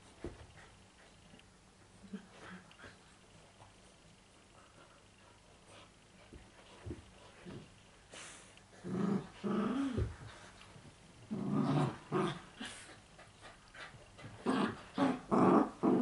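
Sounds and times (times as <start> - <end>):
dogs play growling: 0.0 - 16.0.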